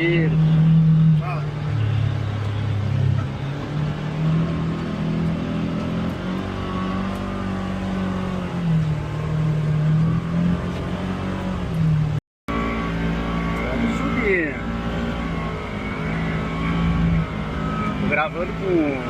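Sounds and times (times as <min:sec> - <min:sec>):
engine running at high revs: 0:00.0 - 0:19.0.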